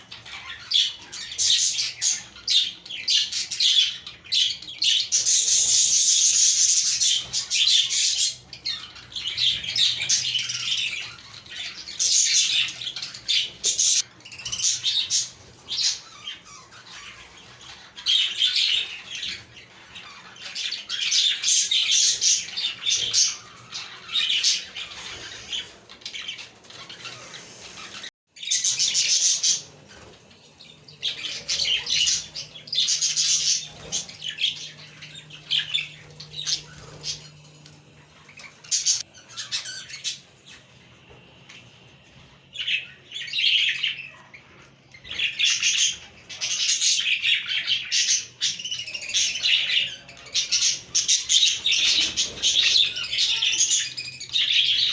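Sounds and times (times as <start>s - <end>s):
budgerigars chattering and chirping: 0.0s - 40.7s, 41.9s - 54.9s.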